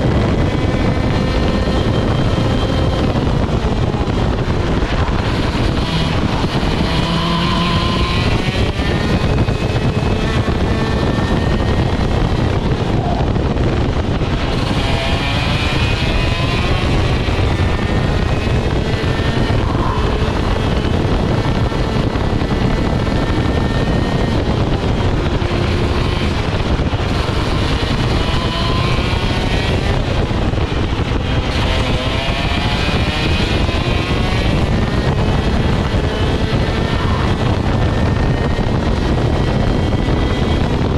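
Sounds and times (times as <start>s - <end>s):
kart engine accelerating: 0.0s - 40.9s
wind noise on microphone: 0.0s - 40.9s.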